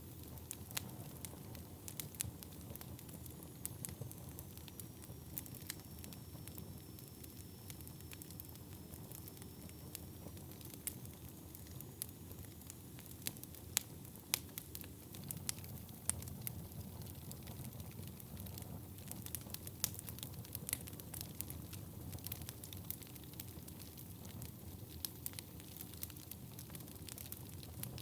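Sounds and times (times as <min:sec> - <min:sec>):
fire crackles and pops: 0:00.0 - 0:28.0
low rumble of flames: 0:00.0 - 0:28.0.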